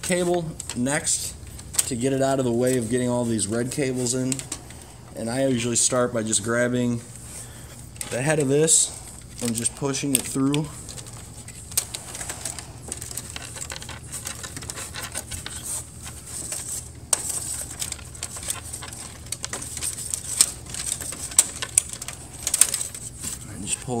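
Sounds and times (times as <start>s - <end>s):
clicks and scraping of wires: 0.0s - 24.0s.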